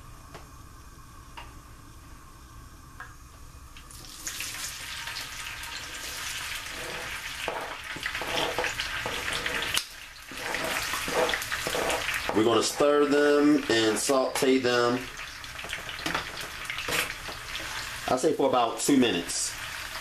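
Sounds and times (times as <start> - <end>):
vegetables sizzling in oil: 3.8 - 20.0.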